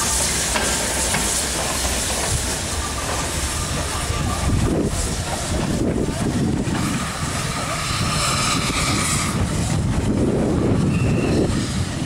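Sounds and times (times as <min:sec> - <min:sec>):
steam hiss: 0:00.0 - 0:12.0
steam train rolling past: 0:00.0 - 0:12.0.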